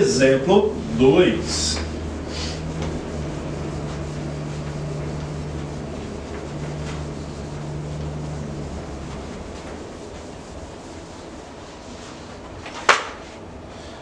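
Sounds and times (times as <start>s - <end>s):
eraser wiping whiteboard: 0.0s - 13.4s
low mechanical hum: 0.0s - 14.0s.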